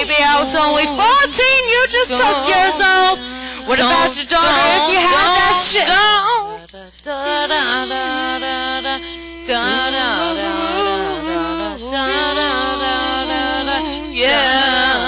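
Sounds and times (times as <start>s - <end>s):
woman singing wordless melody: 0.0s - 15.0s.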